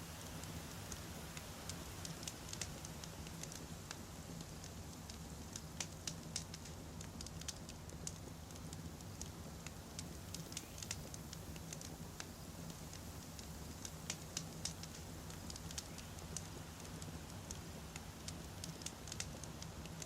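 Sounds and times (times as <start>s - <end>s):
campfire crackles and pops: 0.0s - 20.0s
low rumble of flames: 0.0s - 20.0s.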